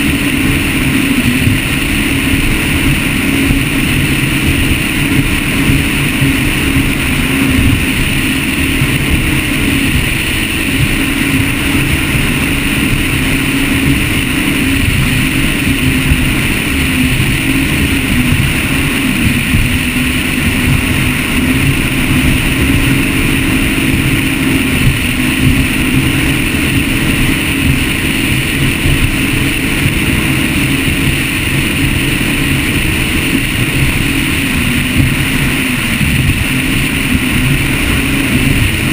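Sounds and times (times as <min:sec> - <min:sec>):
boat engine tone: 0:00.0 - 0:38.9
wind and water rushing: 0:00.0 - 0:38.9.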